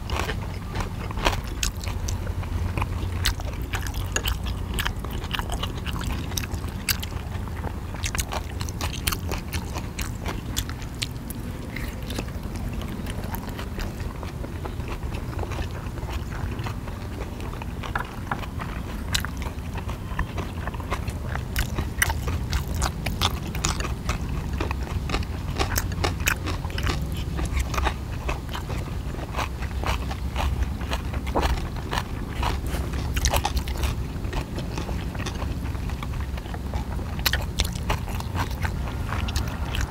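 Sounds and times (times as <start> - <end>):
people chewing dumplings: 0.0 - 39.9.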